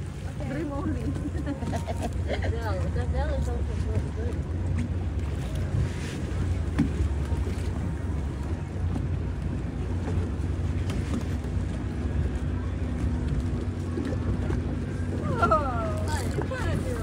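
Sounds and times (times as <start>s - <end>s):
motorboat engine rumbling: 0.0s - 17.0s.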